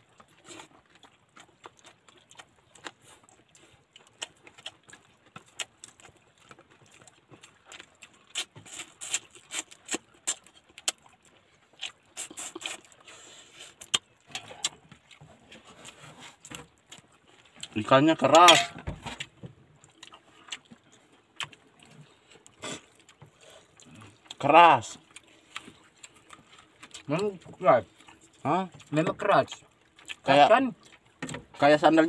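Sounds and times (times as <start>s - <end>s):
person chewing and smacking: 0.0s - 32.0s.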